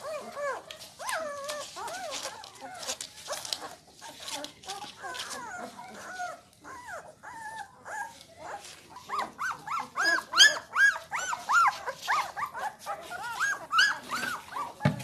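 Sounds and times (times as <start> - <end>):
puppy yelping: 0.0 - 14.8.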